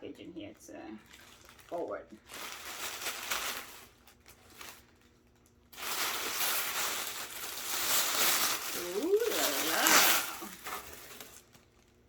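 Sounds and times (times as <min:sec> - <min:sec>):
packaging rustling and crinkling: 0:01.0 - 0:12.0.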